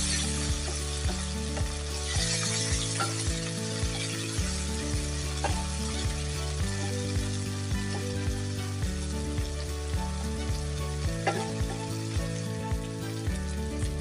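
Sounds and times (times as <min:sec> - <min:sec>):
vegetables sizzling in butter: 0:00.0 - 0:14.0.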